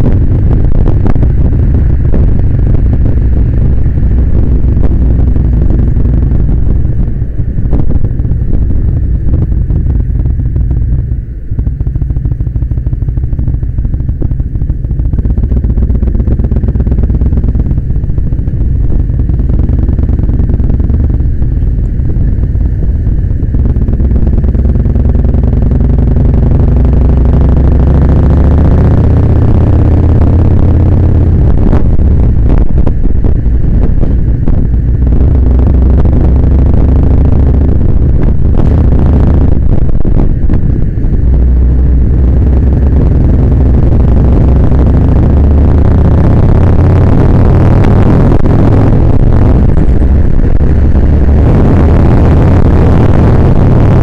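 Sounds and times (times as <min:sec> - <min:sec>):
motorcycle engine rumbling: 0:00.0 - 0:54.0.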